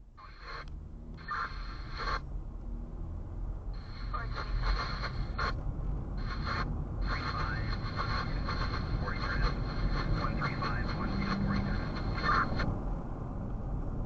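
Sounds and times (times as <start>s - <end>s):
vehicle road rumble: 0.0s - 14.0s.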